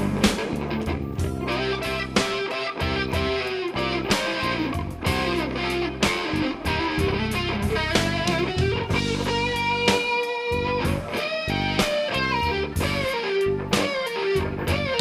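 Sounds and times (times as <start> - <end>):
blues band music: 0.0 - 15.0
electric guitar bending notes: 0.0 - 15.0.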